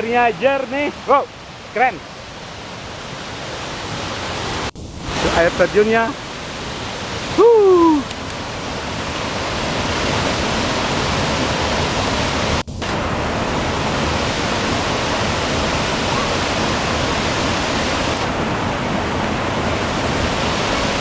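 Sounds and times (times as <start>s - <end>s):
waterfall crashing: 0.0s - 21.0s.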